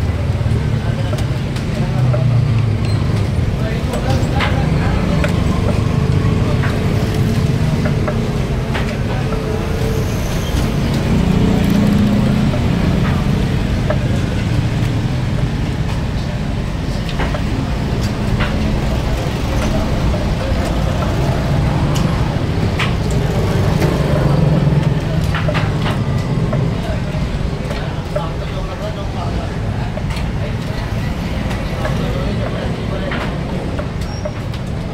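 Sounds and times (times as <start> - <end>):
indistinct voices: 0.0 - 34.9.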